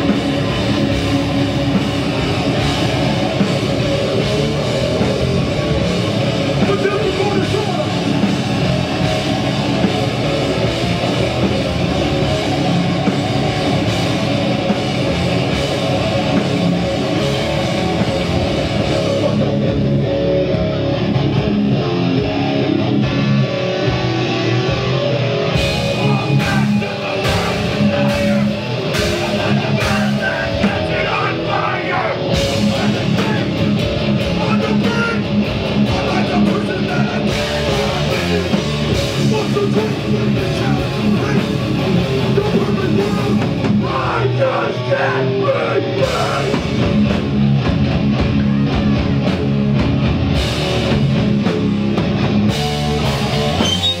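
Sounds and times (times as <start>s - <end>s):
electric guitars: 0.0s - 54.0s
rock band playing live: 0.0s - 54.0s.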